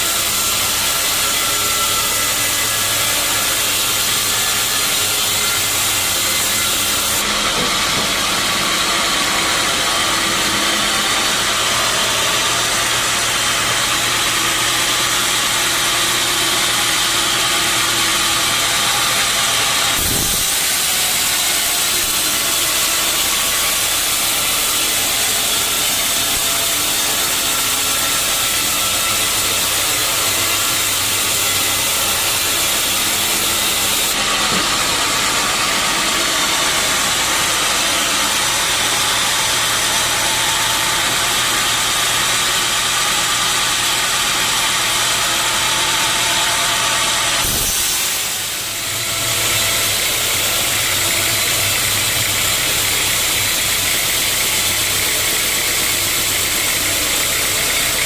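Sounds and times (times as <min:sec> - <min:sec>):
sawmill saw hissing: 0:00.0 - 0:58.0.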